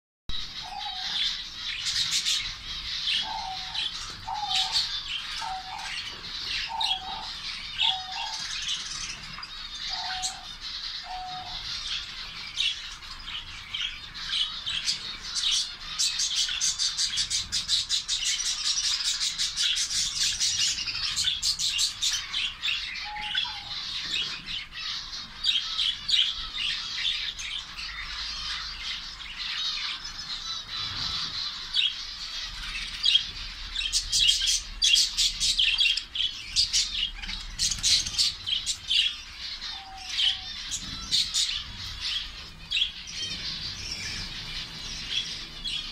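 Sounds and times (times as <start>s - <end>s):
zebra finches chattering: 0.3s - 45.9s.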